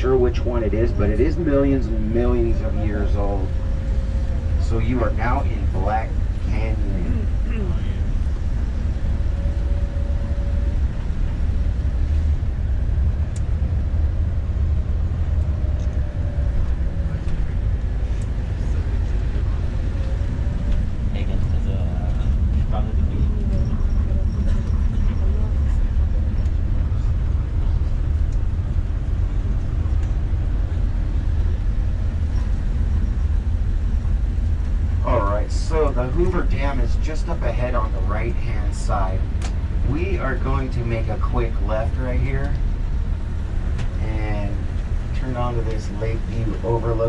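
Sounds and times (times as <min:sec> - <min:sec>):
bus engine and road drone: 0:00.0 - 0:47.0.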